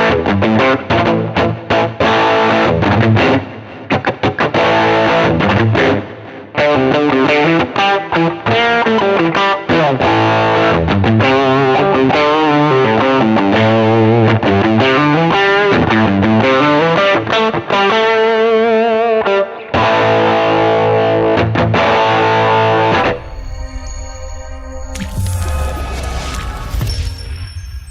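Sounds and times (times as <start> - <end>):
distorted electric guitar: 0.0 - 24.0.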